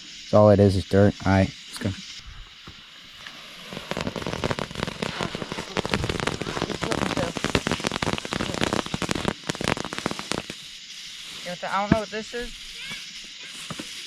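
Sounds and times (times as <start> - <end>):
firework crackling pops: 1.2 - 14.0.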